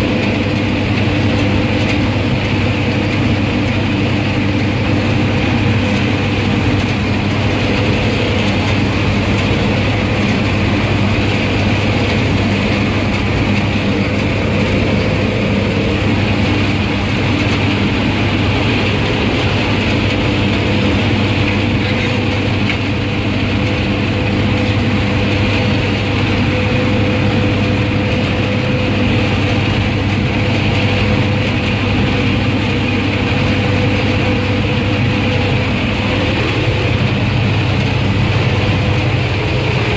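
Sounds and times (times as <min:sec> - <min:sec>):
combine harvester engine and machinery: 0:00.0 - 0:39.9.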